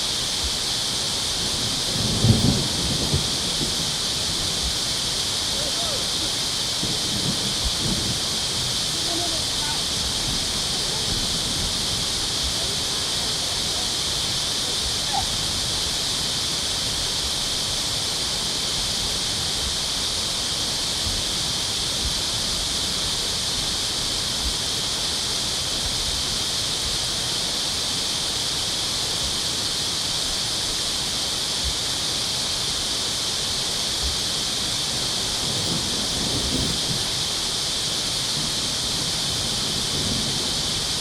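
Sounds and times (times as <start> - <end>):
water rushing through dam: 0.0 - 41.0.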